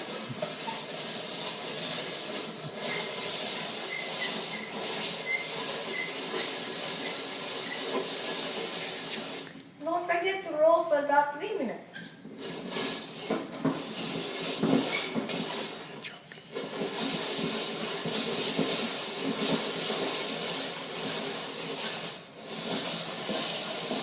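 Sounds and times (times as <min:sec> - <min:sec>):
popcorn pot crank rattling: 0:00.0 - 0:09.5, 0:12.0 - 0:15.9, 0:16.5 - 0:24.0.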